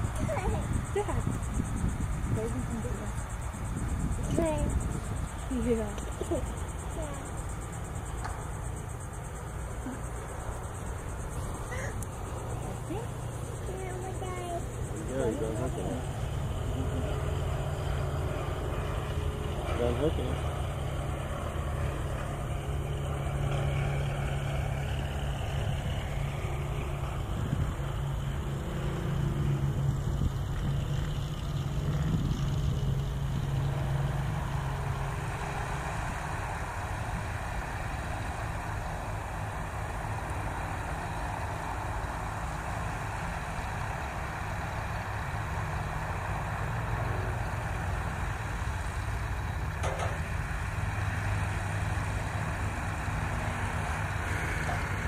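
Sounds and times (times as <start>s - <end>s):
piston engines droning: 0.0s - 55.0s.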